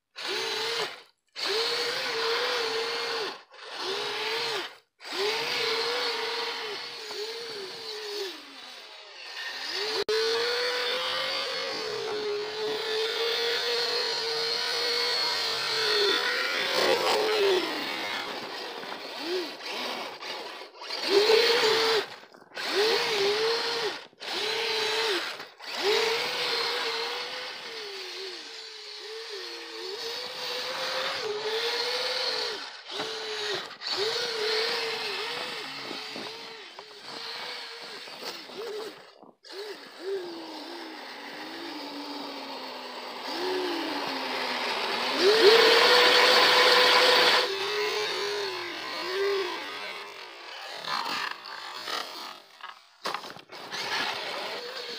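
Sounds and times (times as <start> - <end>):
electric motors whining: 0.1 - 54.9.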